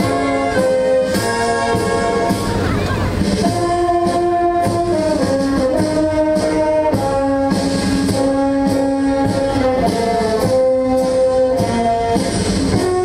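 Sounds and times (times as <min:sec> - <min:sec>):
brass orchestra melody: 0:00.0 - 0:13.0
percussion strokes: 0:00.0 - 0:13.0.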